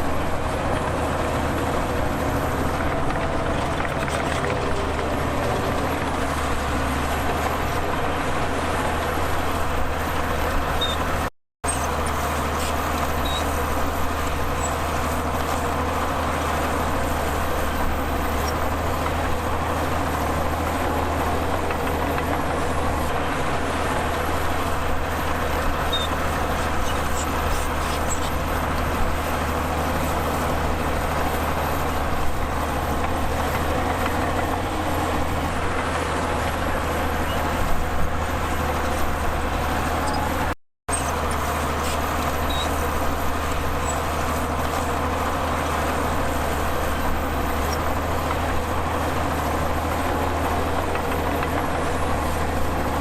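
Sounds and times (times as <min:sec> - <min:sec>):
heavy diesel machinery engines: 0:00.0 - 0:53.0.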